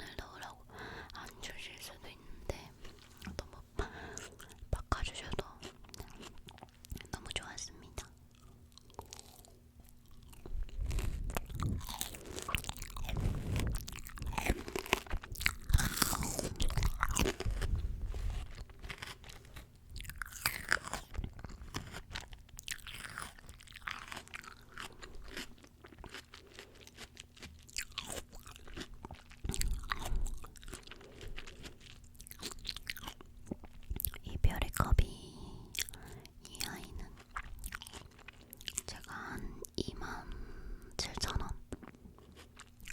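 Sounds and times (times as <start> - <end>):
fruit crunching being chewed: 2.5 - 42.9.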